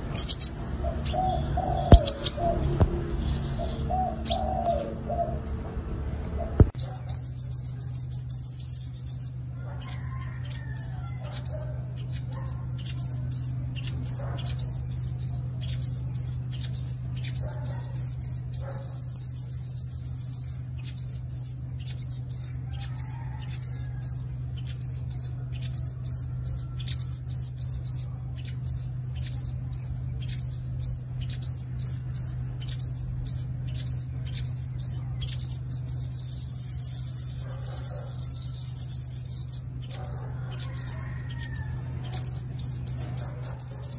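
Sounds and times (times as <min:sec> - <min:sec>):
rapid buzzing bird trill: 0:00.0 - 0:05.4, 0:06.4 - 0:43.9
bird high chirps: 0:00.0 - 0:05.5, 0:06.4 - 0:43.9
steady low hum: 0:00.0 - 0:43.9.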